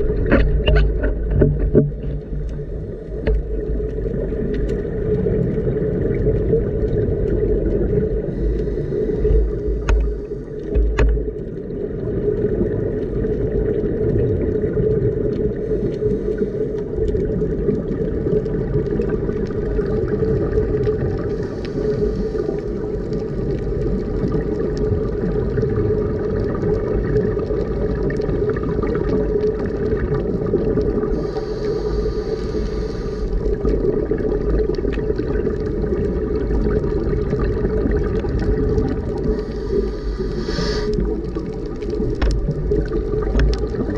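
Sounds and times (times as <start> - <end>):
regulator bubbles hissing: 0.0 - 43.9
underwater low drone: 0.0 - 43.9.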